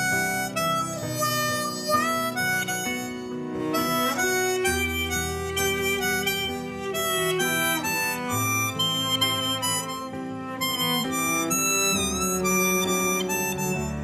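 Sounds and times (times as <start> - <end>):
harmonica playing slow melody: 0.0 - 14.0.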